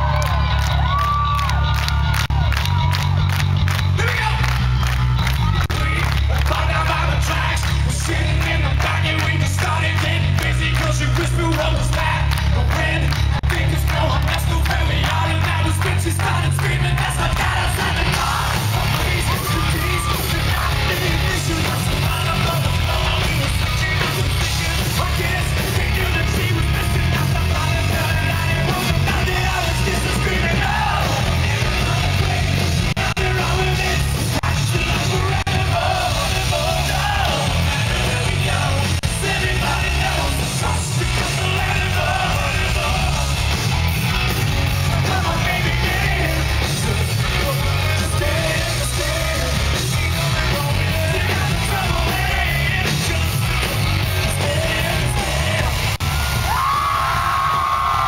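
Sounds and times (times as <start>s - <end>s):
live hard rock band: 0.0s - 58.0s
singer shouting vocals: 3.9s - 43.4s, 44.9s - 58.0s.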